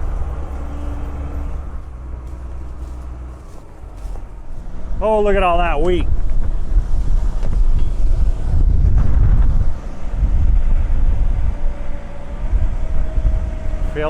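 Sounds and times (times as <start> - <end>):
farm machinery rumbling: 0.0 - 14.0
strong wind buffeting microphone: 0.0 - 14.0.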